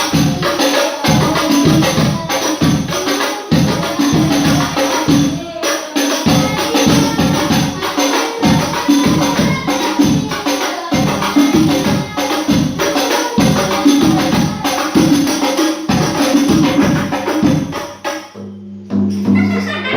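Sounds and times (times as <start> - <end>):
hand-struck frame drums: 0.0 - 18.4.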